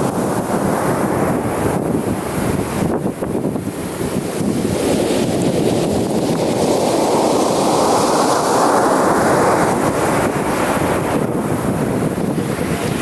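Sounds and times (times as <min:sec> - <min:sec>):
ocean wave rushing in: 0:00.0 - 0:13.0
wind buffeting microphone: 0:00.0 - 0:13.0.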